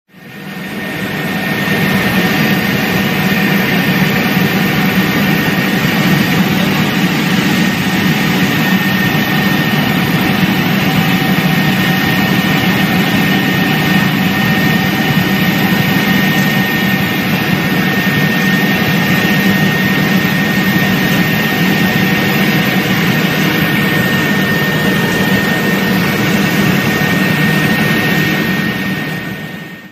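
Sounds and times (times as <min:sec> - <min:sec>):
helicopter engine and rotor: 0:00.1 - 0:29.9.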